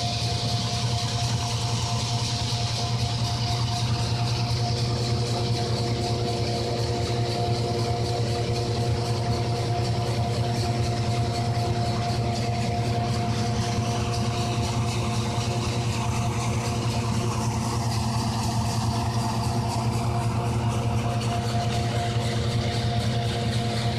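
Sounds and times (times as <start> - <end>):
tractor engine drone: 0.0 - 23.9.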